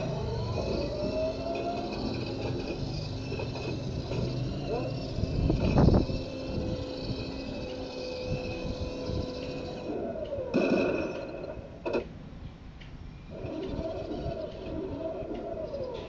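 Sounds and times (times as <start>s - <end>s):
turret whine: 0.0s - 12.2s, 13.2s - 16.0s.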